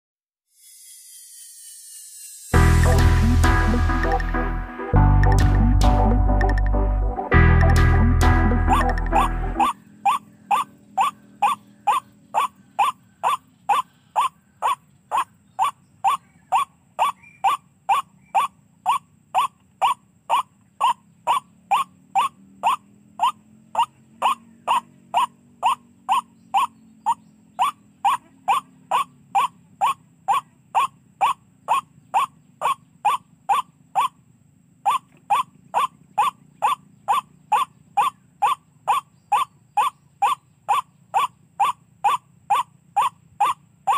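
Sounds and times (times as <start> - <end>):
electronic bird call: 0.6 - 34.2, 34.9 - 43.9.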